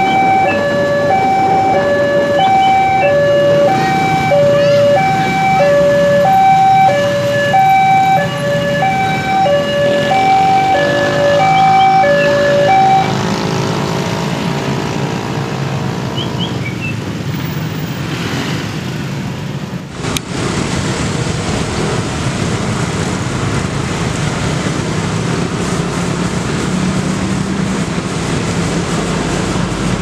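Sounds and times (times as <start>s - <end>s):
car engines passing: 0.0s - 30.0s
motorcycle engines passing: 0.0s - 30.0s.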